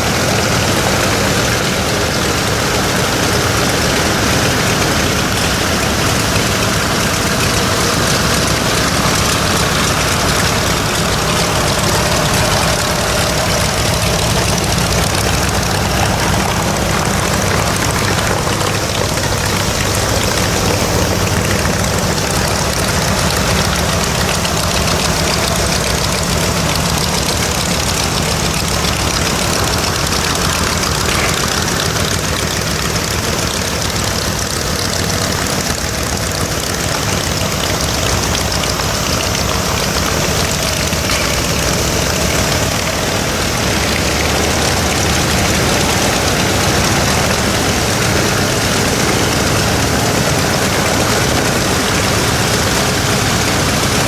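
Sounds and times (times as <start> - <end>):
radial aircraft engine running: 0.0 - 54.0.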